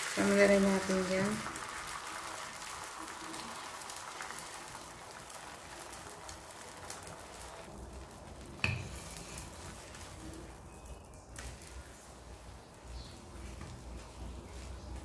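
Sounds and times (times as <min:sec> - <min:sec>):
egg and meat frying in oil: 0:00.0 - 0:15.0.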